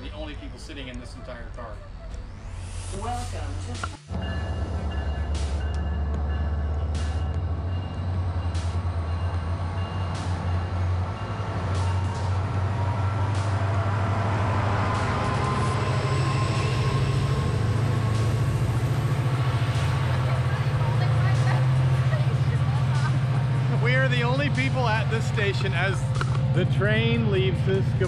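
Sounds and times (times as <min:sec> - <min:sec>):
locomotive engine drone: 0:00.0 - 0:28.0
train coaches rumbling past: 0:00.0 - 0:28.0.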